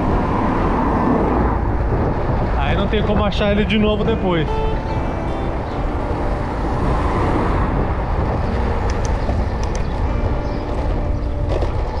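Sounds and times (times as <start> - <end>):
road noise: 0.0 - 12.0
wind on microphone: 0.0 - 12.0.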